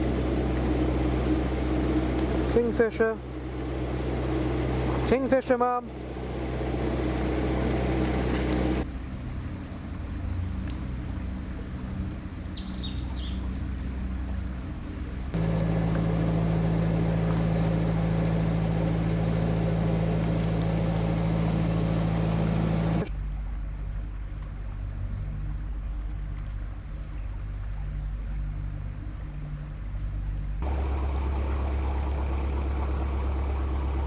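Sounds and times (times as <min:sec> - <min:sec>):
boat engine running: 0:00.0 - 0:09.0, 0:13.4 - 0:34.0.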